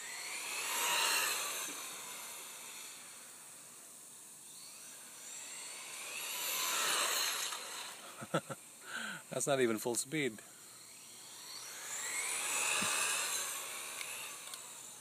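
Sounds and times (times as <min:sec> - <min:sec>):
rc truck motor whining: 0:00.0 - 0:09.4, 0:10.5 - 0:15.0.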